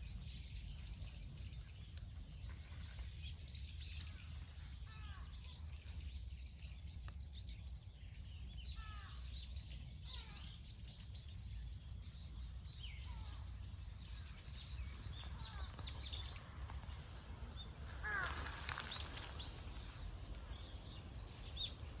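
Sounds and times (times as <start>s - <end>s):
low background rumble: 0.0s - 22.0s
small birds chirping: 0.0s - 22.0s.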